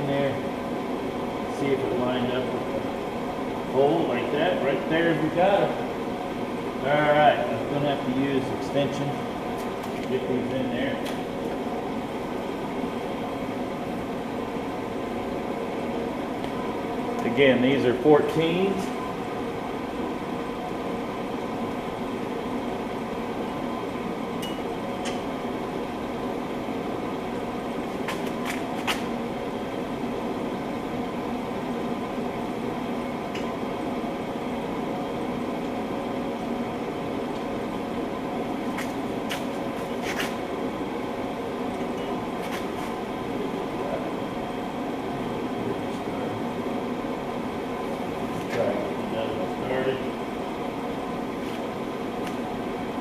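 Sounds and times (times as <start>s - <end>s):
mechanical fan hum: 0.0s - 53.0s.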